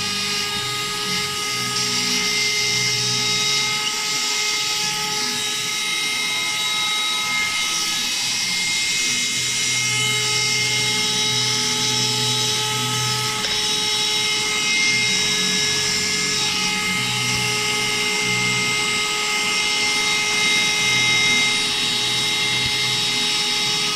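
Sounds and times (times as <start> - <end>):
handheld vacuum cleaner whining: 0.0 - 23.9.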